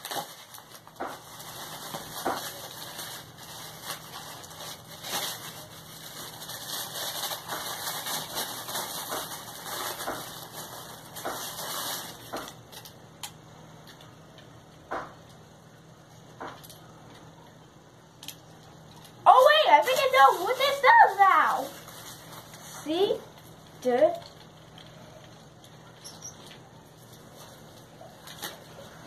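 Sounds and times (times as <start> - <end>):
plastic packaging crinkling: 0.0 - 14.1, 18.2 - 29.0.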